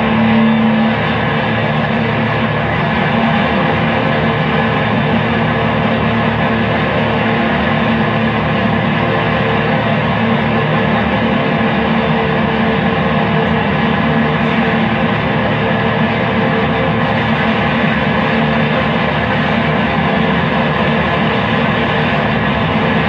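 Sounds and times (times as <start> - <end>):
distorted guitar drone: 0.0 - 23.0.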